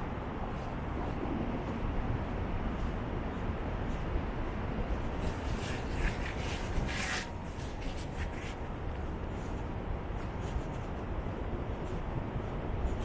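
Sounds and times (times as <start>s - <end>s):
low city rumble: 0.0s - 13.0s
faint scuffs and rustles: 0.4s - 13.0s.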